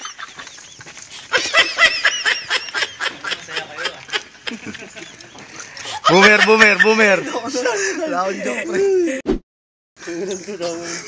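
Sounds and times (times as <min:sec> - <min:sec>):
man laughing: 0:00.0 - 0:09.2.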